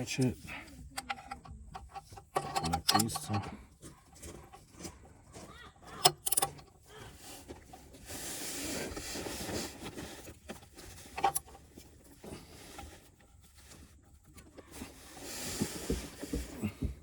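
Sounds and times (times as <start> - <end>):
tools rustling and scraping: 0.0 - 17.0.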